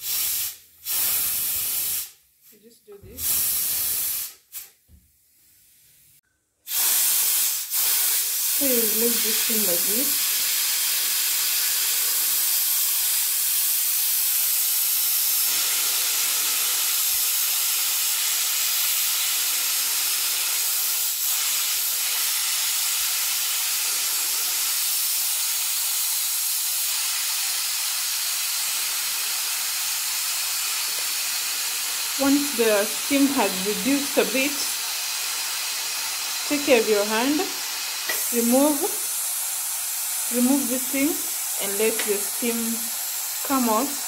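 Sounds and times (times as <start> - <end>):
steam hissing from pressure cooker: 0.0 - 4.8, 6.6 - 44.0.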